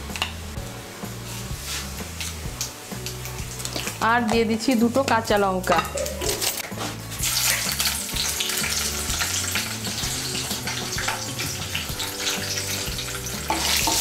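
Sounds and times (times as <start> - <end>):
seeds and chillies sizzling in oil: 0.0 - 14.0.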